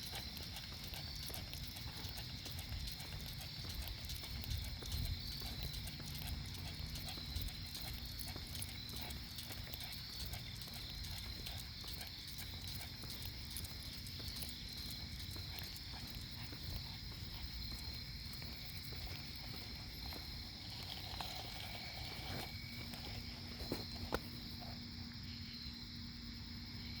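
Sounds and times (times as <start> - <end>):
faint ticks: 0.0 - 24.8
insects trilling: 0.0 - 27.0.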